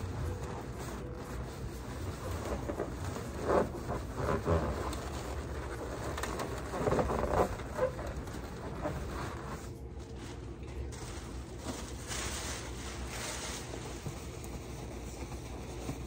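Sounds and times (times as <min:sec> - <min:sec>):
balloons rubbing and squeaking: 0:00.0 - 0:16.0.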